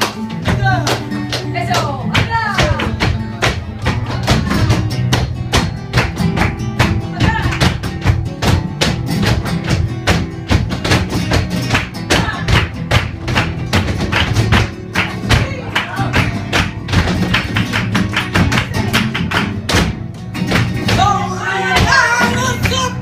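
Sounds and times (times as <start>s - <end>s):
flamenco guitar music: 0.0s - 23.0s.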